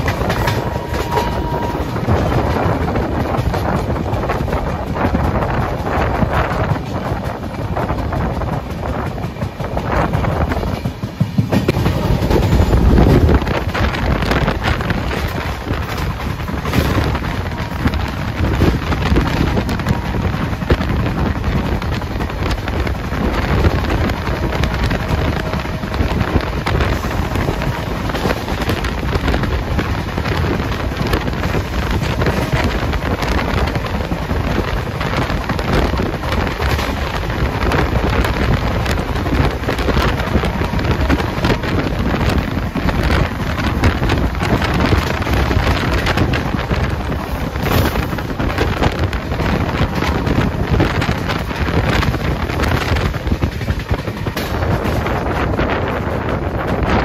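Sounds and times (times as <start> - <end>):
train wheels rumbling on rails: 0.0 - 57.0
wind rushing over microphone: 0.0 - 57.0.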